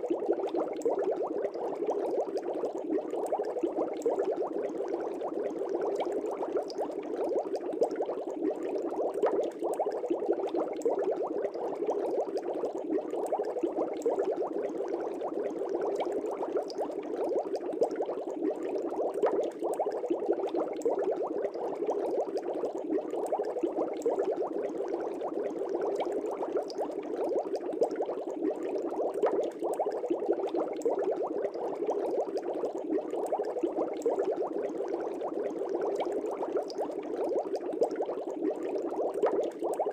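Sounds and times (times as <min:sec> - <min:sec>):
aquarium air bubbles: 0:00.0 - 0:39.9.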